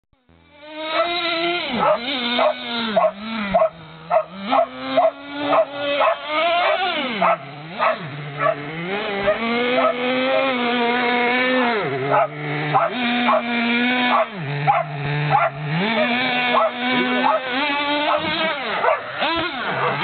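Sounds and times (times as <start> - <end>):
small engine revving: 0.2 - 20.0.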